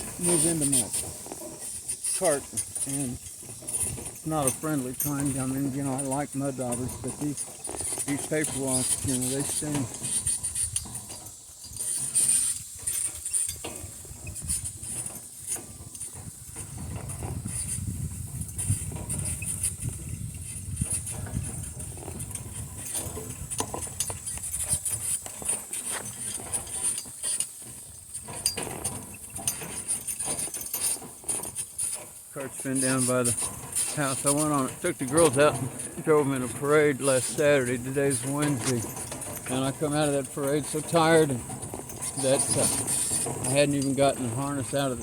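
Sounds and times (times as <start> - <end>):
cart rattling over ground: 0.0 - 45.0.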